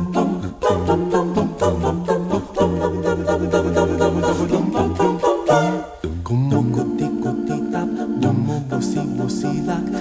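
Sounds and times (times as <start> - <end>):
a cappella group singing harmony: 0.0 - 10.0.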